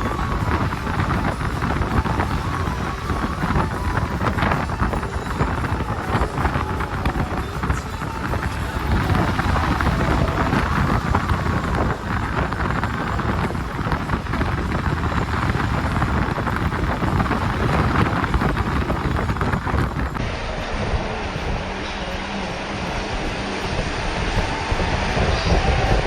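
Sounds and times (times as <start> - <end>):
vehicle engine and road noise: 0.0 - 26.0
wind buffeting microphone: 0.0 - 26.0.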